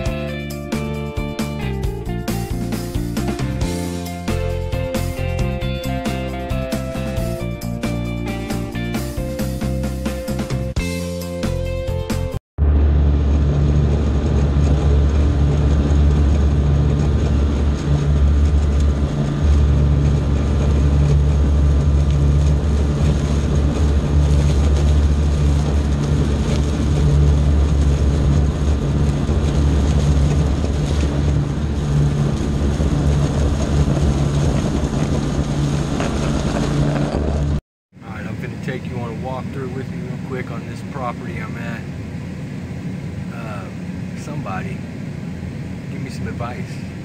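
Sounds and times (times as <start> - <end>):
mower engine droning: 0.0 - 47.0.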